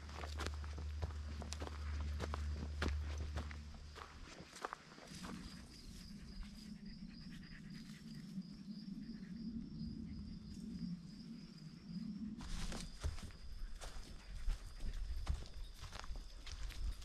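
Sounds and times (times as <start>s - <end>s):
insects chirping trill: 0.0s - 17.0s.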